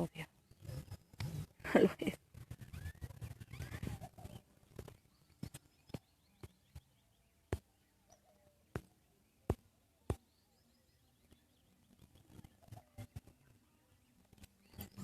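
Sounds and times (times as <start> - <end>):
faint high chirping: 2.6 - 15.0.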